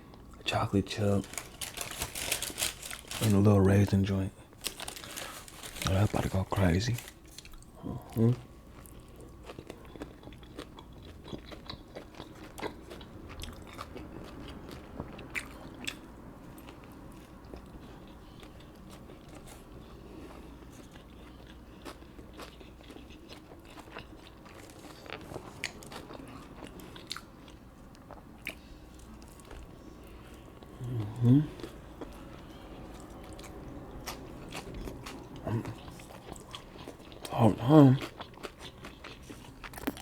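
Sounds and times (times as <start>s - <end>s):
person chewing food: 6.9s - 40.0s.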